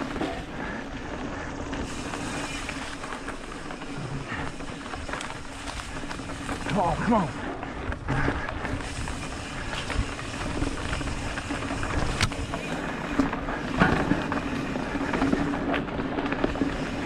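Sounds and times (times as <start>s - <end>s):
bike tyres on dirt and leaves: 0.0s - 17.0s.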